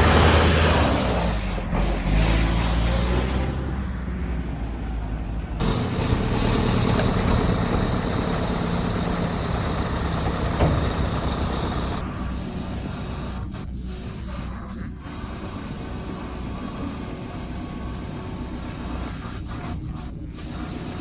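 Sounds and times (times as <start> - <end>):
diesel engine running: 0.0 - 2.6, 3.9 - 20.9.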